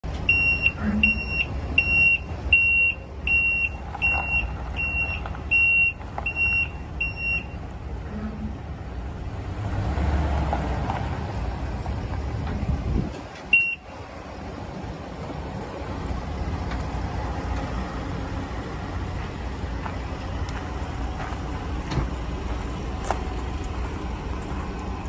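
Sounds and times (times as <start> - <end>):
truck engine idling: 0.0 - 9.8, 10.8 - 25.0.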